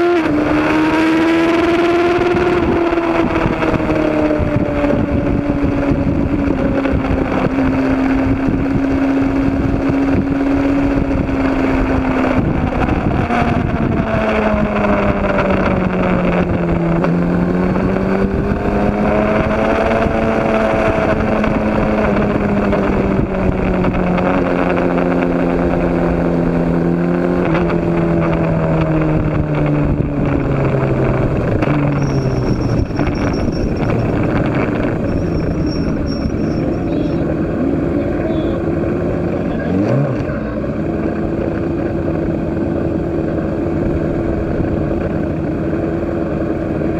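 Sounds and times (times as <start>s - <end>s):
heavy rushing noise: 0.0s - 46.9s
racing motorcycle engine: 0.0s - 46.9s.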